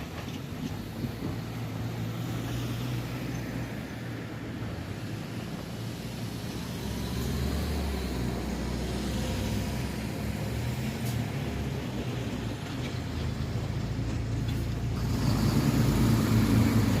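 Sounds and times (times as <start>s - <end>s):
passing vehicles rumble: 0.0s - 17.0s.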